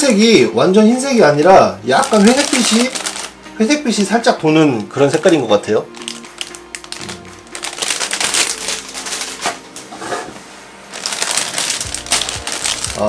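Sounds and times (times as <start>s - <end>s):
plastic bags crinkling: 1.4s - 9.9s, 10.9s - 13.0s.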